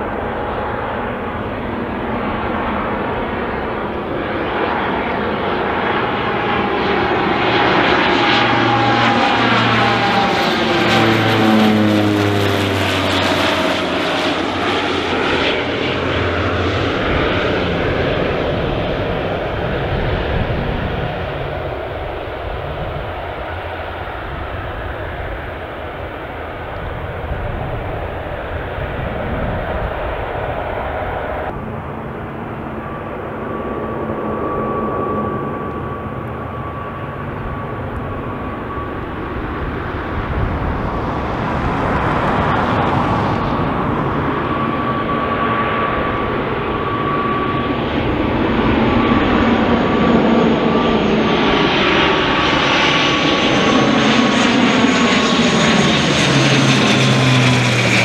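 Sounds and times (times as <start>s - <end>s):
aircraft engine noise: 0.0s - 58.0s
turboprop propellers humming: 0.0s - 58.0s.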